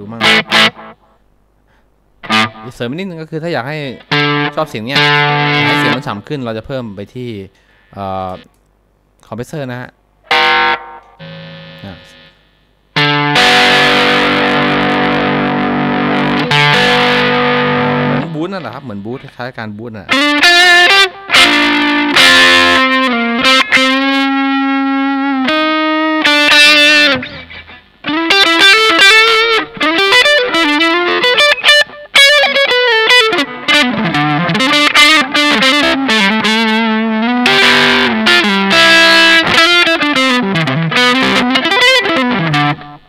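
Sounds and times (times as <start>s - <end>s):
distorted electric guitar: 0.0s - 1.2s, 2.2s - 3.0s, 3.6s - 6.8s, 10.2s - 19.4s, 20.1s - 43.0s.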